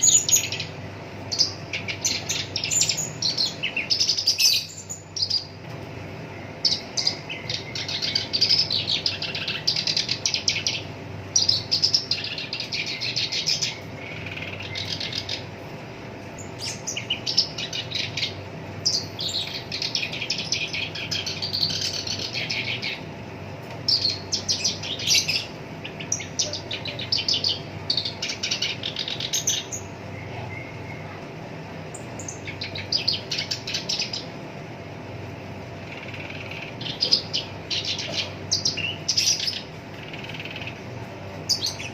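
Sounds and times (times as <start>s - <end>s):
reed warbler singing: 0.0s - 5.6s, 6.2s - 31.2s, 31.8s - 41.9s.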